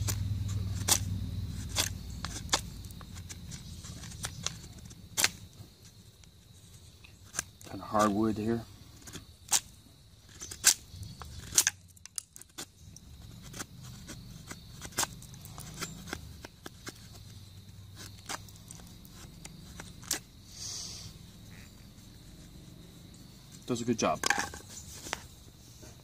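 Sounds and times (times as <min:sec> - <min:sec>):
knife scraping wood: 0:00.0 - 0:08.2, 0:09.0 - 0:20.8, 0:21.9 - 0:26.0.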